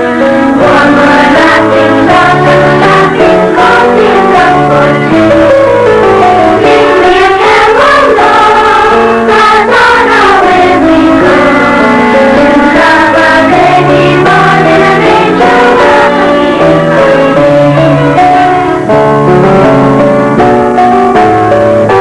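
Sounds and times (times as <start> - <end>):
children's choir singing a carol: 0.0 - 19.9.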